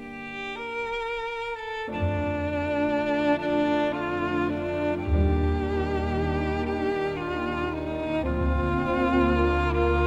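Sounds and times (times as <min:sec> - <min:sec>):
slow bowed string music: 0:00.0 - 0:10.0.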